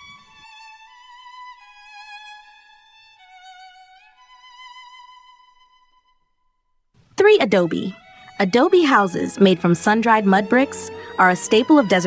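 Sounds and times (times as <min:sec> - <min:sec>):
slow violin melody: 0:00.0 - 0:06.5, 0:07.2 - 0:12.0.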